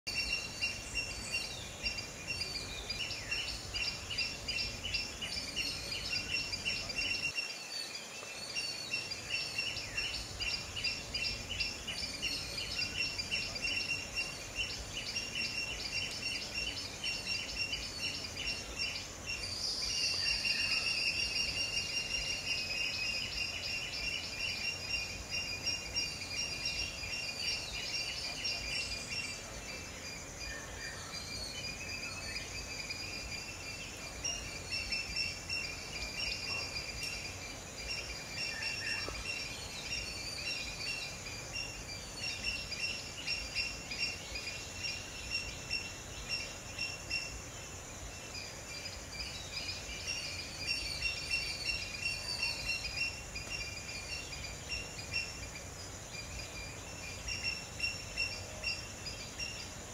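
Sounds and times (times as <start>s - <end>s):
birds chirping: 0.1s - 59.9s
high-pitched insect drone: 0.1s - 59.9s.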